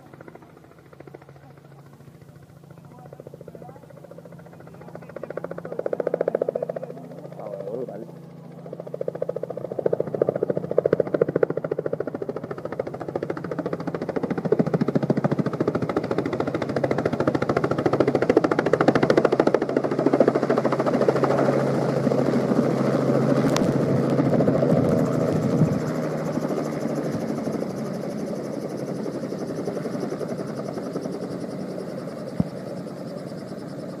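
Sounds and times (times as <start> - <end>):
helicopter rotor drone: 0.0 - 34.0.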